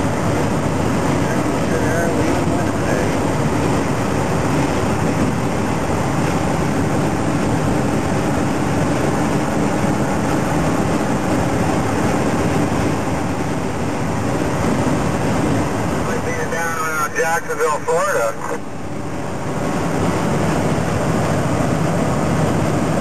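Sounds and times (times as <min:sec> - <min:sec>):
truck engine and road drone: 0:00.0 - 0:23.0.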